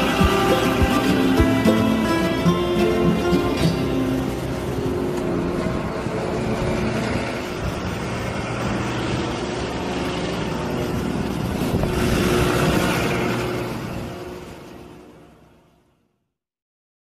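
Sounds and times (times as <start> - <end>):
excavator diesel engine running: 0.0 - 15.7.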